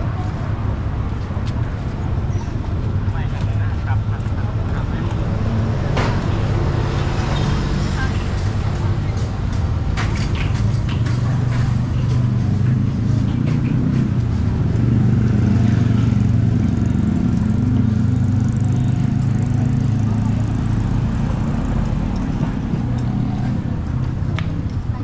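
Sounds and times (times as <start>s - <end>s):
street traffic: 0.0s - 25.0s
vehicle engine running: 0.0s - 25.0s.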